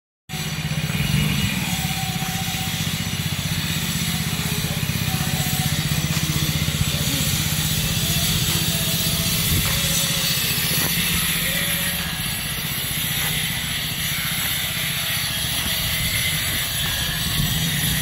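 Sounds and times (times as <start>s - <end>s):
engine running with low pulsing: 0.3s - 18.0s.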